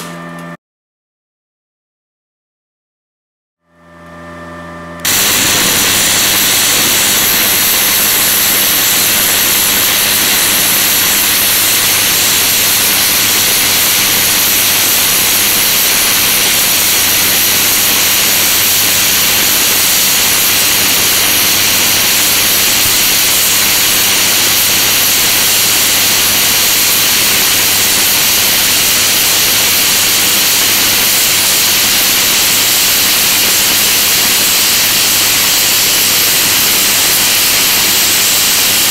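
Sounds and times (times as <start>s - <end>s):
welding arc hissing: 5.0s - 38.9s.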